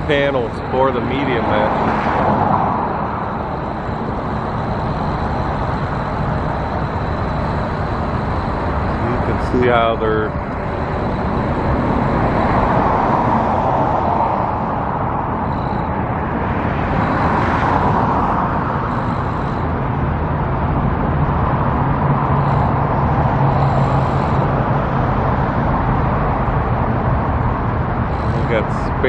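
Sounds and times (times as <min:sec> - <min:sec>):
low hum: 0:00.0 - 0:29.0
road traffic noise: 0:00.0 - 0:29.0.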